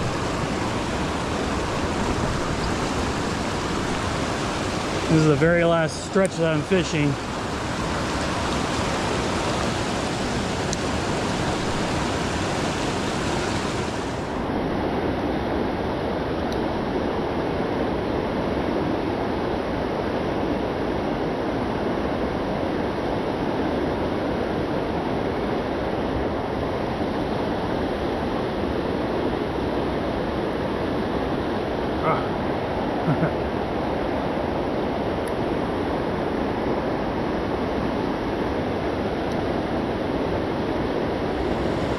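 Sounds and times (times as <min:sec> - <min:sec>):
river flowing: 0:00.0 - 0:41.9.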